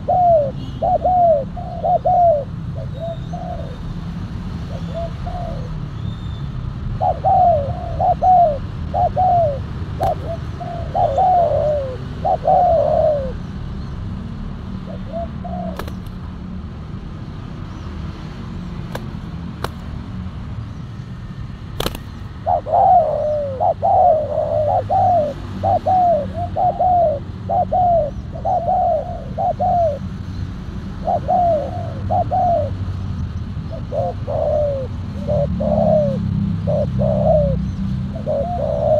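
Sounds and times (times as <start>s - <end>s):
doves cooing: 0.0s - 5.8s, 6.8s - 13.6s, 14.6s - 16.4s, 21.8s - 38.9s.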